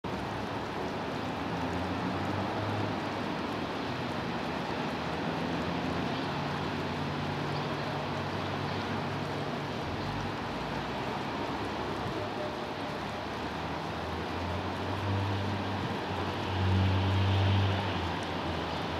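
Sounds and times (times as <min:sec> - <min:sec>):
outdoor hiss: 0:00.2 - 0:18.9.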